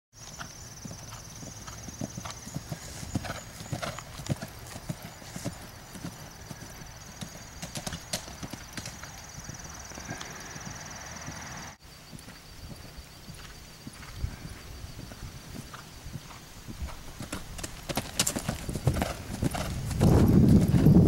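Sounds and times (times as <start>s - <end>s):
horse hoofbeats on grass: 0.2s - 21.0s.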